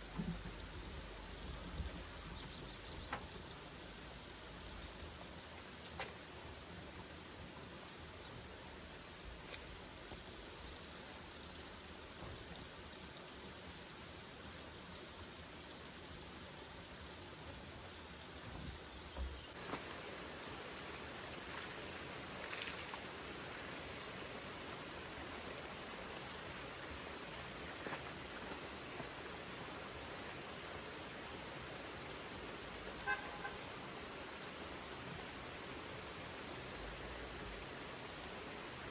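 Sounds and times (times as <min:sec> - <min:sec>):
crickets chirping chorus: 0:00.0 - 0:38.9
steady rushing hiss: 0:00.0 - 0:38.9.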